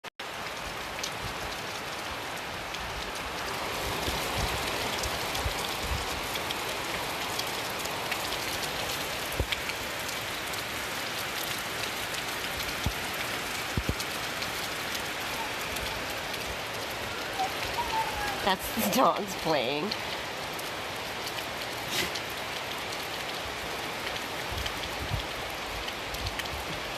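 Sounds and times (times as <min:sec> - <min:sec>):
steady rain falling: 0:00.2 - 0:26.9.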